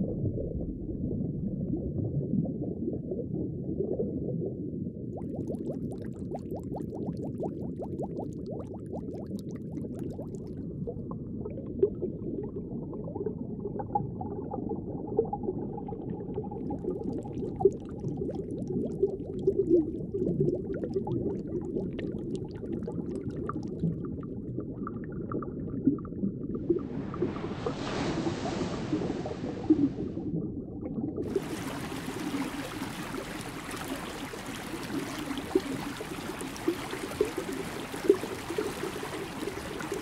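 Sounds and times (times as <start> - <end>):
underwater bubbling and gurgling: 0.0 - 40.0.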